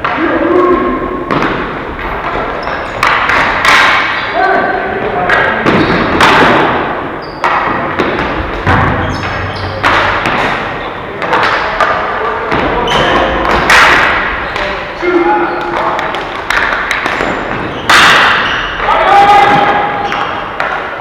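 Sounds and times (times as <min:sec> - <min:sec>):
ball and sticks hitting boards: 0:01.2 - 0:04.4, 0:05.0 - 0:20.9.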